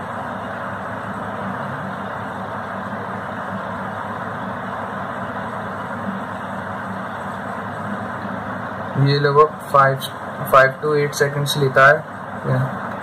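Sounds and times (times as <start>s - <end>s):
background rumble and hiss: 0.0s - 13.0s.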